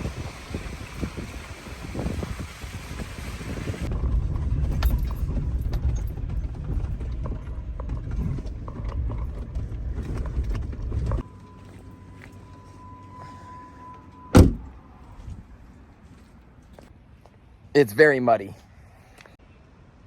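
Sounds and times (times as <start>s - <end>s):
vehicle rumbling on rough road: 0.0s - 17.7s.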